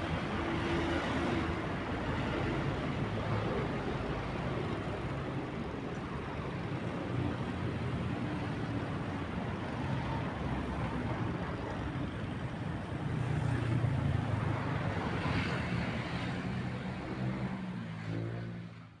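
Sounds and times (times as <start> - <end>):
wind and water rushing: 0.0 - 17.5.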